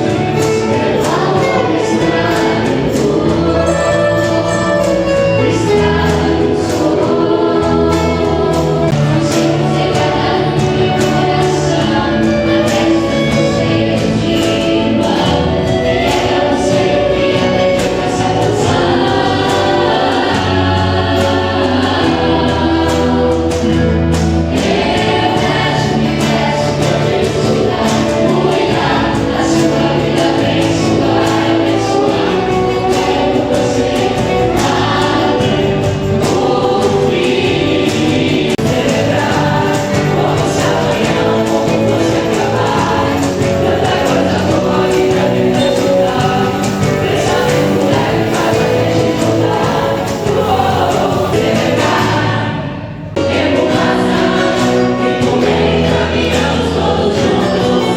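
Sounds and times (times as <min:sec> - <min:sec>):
choir singing: 0:00.0 - 0:57.9
musical accompaniment: 0:00.0 - 0:57.9.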